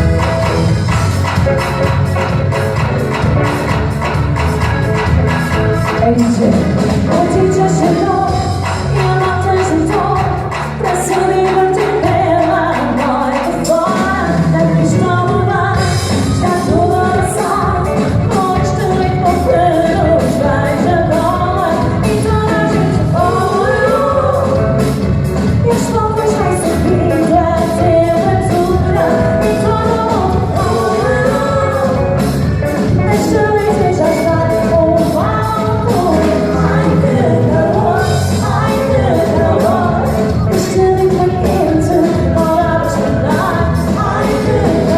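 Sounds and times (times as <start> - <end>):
live band playing pop song: 0.0 - 44.9
steady drum beat: 0.0 - 44.9
lead vocal singing: 6.1 - 44.9.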